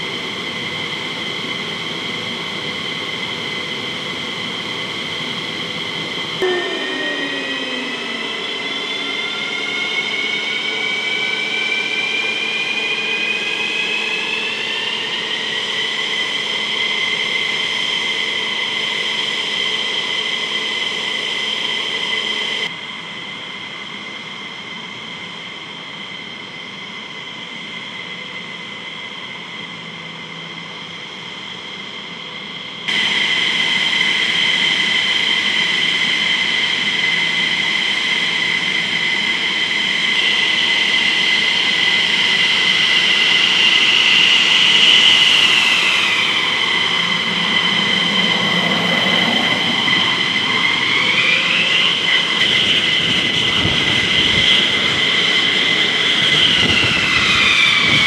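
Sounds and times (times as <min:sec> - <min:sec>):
jet turbine whining: 0:00.0 - 0:58.0.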